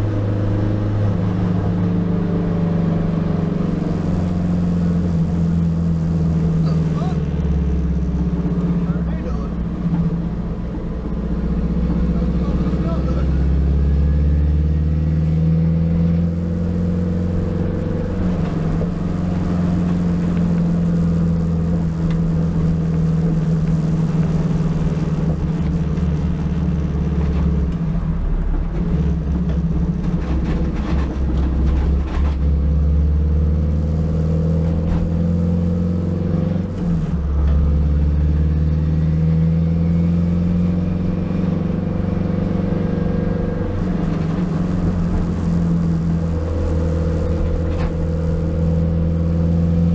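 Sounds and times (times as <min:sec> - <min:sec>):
turbocharged car engine running: 0:00.0 - 0:49.9.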